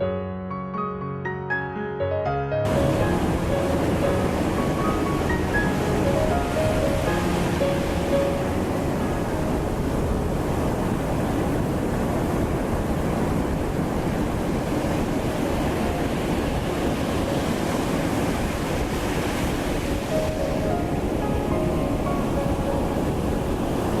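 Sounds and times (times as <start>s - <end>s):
ocean surf washing: 2.5s - 24.0s
wind noise on microphone: 2.6s - 24.0s.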